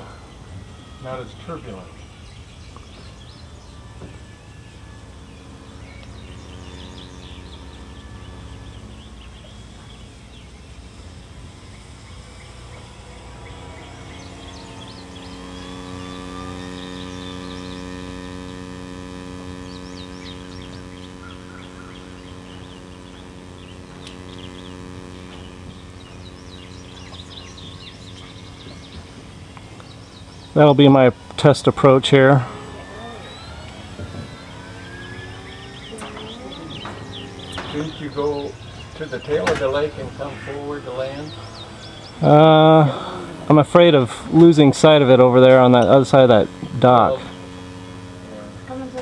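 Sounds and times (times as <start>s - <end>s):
birds chirping: 0.0s - 49.0s
model plane motor drone: 0.0s - 49.0s.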